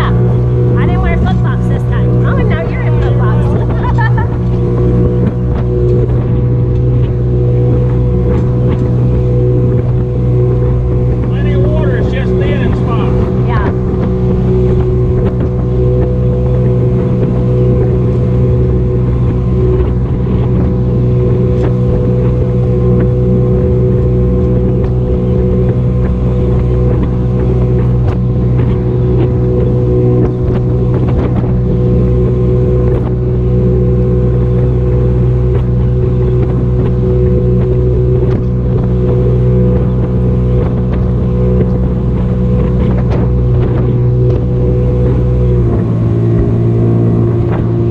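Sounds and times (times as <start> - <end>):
motorboat engine running steadily: 0.0 - 47.9.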